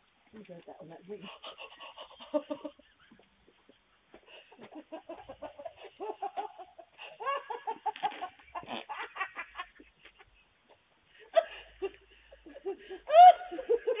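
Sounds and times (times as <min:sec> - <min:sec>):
woman laughing: 0:01.1 - 0:10.2, 0:11.3 - 0:14.0.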